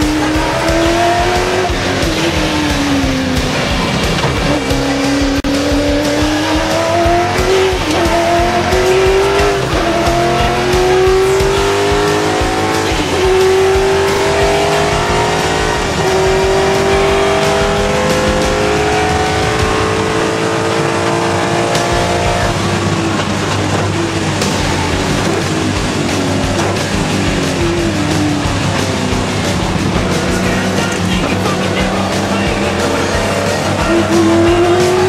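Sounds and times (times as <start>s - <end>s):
engine accelerating through gears: 0.0s - 35.0s.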